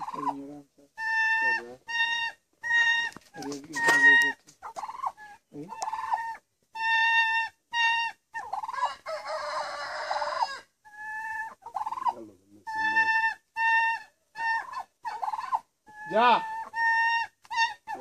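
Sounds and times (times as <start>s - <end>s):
turkey warbling call: 0.0s - 0.4s, 1.0s - 18.0s
turkey hens calling: 0.0s - 18.0s.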